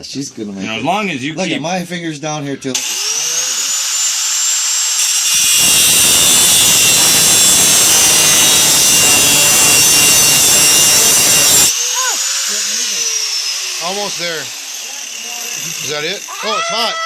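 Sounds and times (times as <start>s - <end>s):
cutting wheel grinding metal: 2.8s - 17.0s
power tool high whine: 2.8s - 17.0s.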